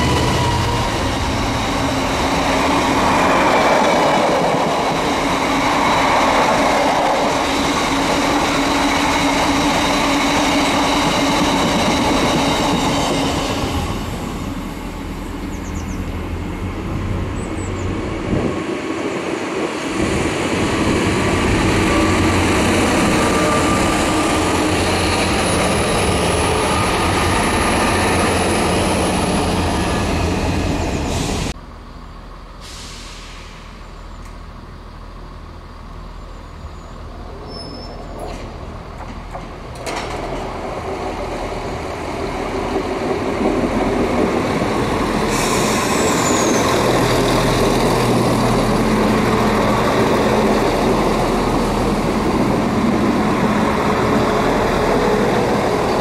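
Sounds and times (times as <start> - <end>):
train engine hum: 0.0 - 56.0.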